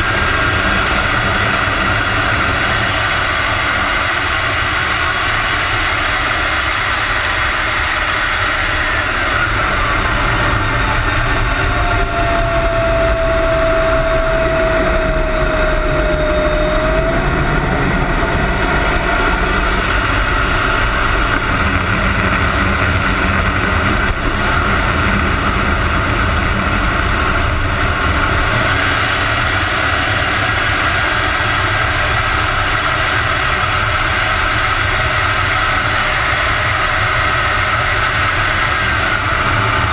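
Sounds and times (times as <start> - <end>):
model jet engine whining: 0.0 - 39.9.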